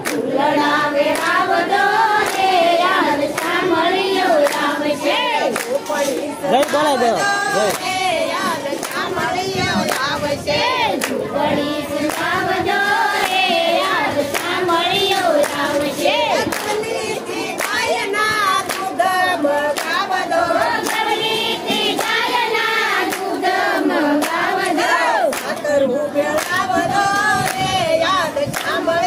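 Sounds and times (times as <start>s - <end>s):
hands clapping: 0.0s - 29.0s
women singing in unison: 0.0s - 29.0s.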